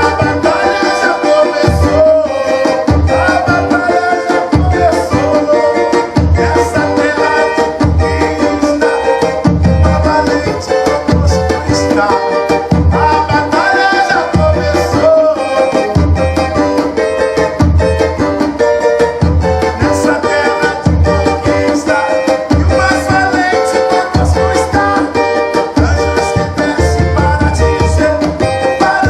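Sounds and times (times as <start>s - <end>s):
drum beating steady rhythm: 0.0s - 29.0s
strummed cavaquinho: 0.0s - 29.0s.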